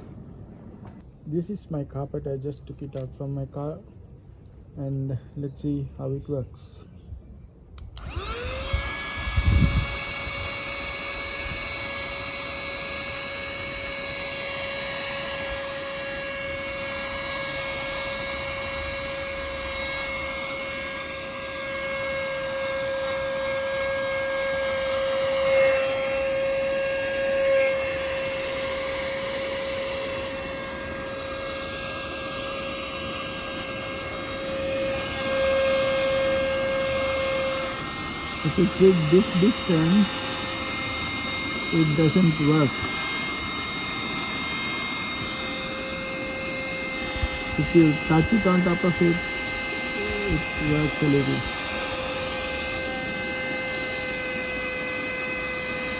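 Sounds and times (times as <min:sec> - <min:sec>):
handheld vacuum motor whine: 0:07.8 - 0:55.9.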